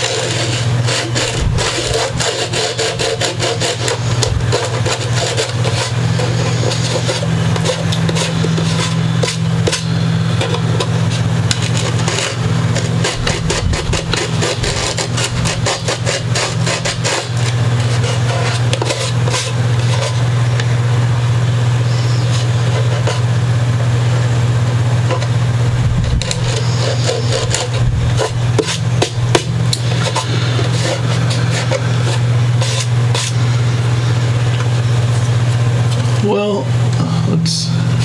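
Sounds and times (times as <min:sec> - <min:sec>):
file rasping on wood: 0:00.0 - 0:20.8, 0:21.6 - 0:23.4, 0:25.0 - 0:35.4
machine hum: 0:00.0 - 0:38.0.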